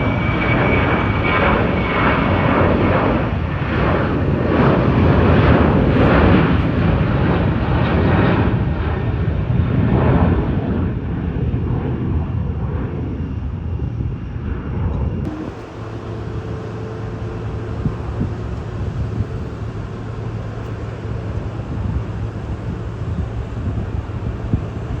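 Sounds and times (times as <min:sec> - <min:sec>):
airplane engines rumbling: 0:00.0 - 0:25.0.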